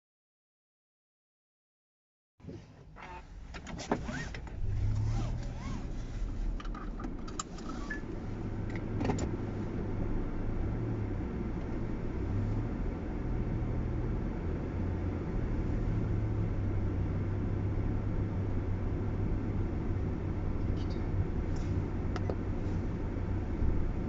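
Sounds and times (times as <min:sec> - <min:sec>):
car road and engine rumble: 0:02.4 - 0:24.0.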